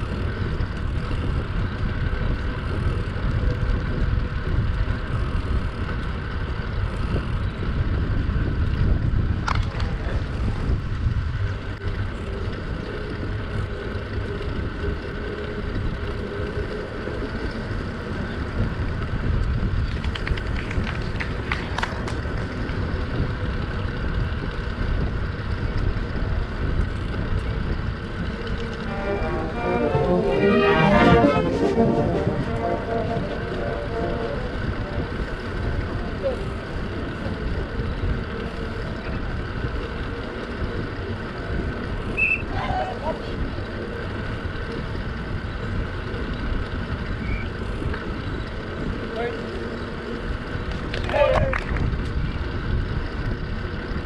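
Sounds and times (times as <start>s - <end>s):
wind and travel rumble: 0.0s - 54.0s.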